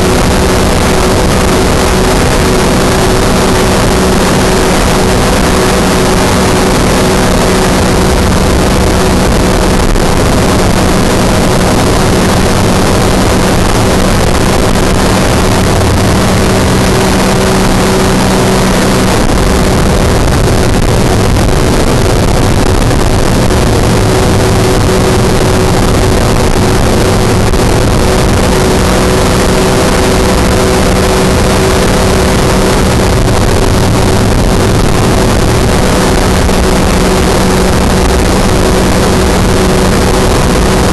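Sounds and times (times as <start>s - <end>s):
aircraft engine running: 0.0s - 40.9s
wind rushing on microphone: 0.0s - 40.9s.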